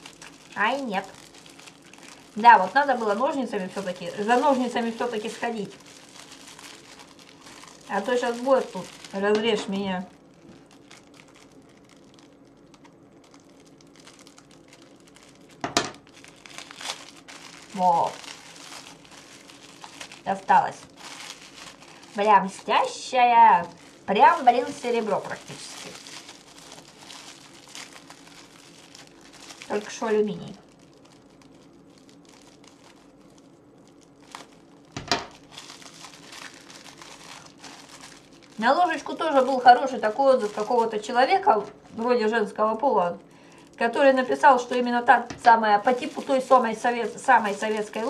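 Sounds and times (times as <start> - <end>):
bag tearing open with crackle: 0.0 - 42.0, 45.8 - 48.0
cellophane packaging crinkling: 0.0 - 48.0.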